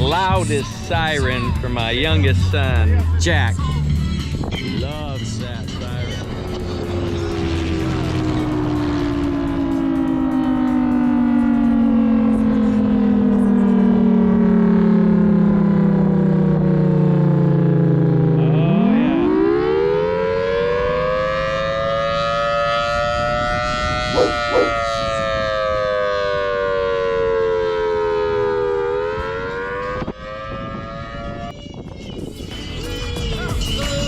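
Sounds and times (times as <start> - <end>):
outdoor siren wailing: 0.0 - 2.9, 3.7 - 34.0.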